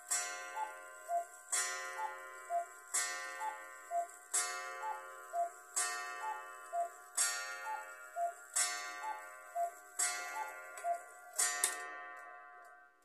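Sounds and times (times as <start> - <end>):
cuckoo clock call: 0.0 - 12.8
metallic clock strike ringing: 0.0 - 12.8.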